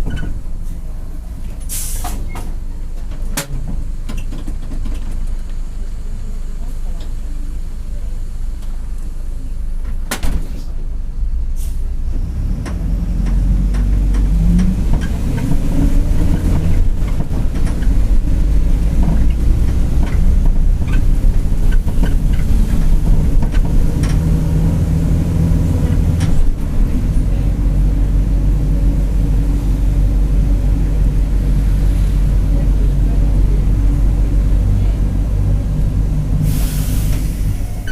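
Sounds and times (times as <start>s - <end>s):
bus diesel engine drone: 0.0s - 37.9s.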